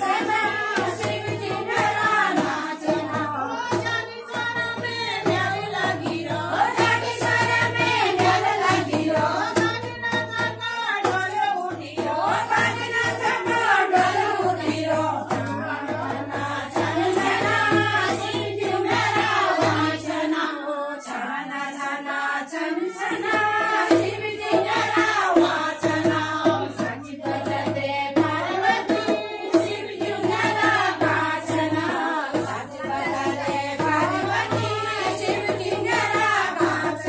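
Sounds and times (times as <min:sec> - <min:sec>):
drum beats: 0:00.0 - 0:20.4, 0:22.8 - 0:37.0
folk song sung in chorus: 0:00.0 - 0:37.0.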